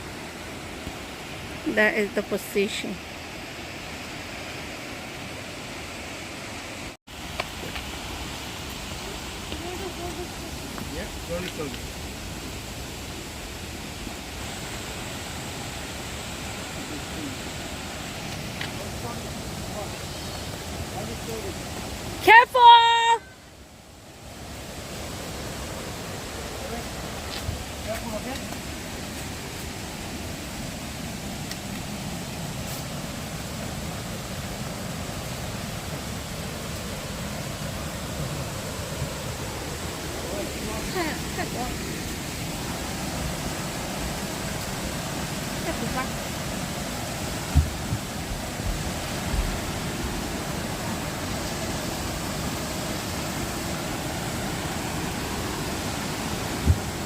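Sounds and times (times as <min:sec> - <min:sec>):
water rushing in stream and waterfall: 0:00.0 - 0:57.0.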